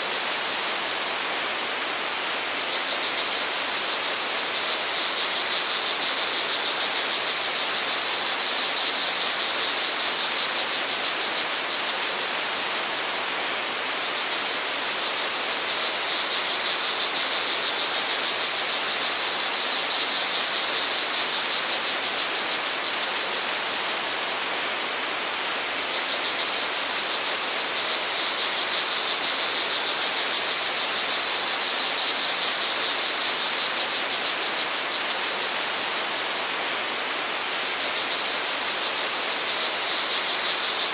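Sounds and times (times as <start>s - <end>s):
crickets trilling: 0.0s - 24.9s, 25.6s - 40.9s.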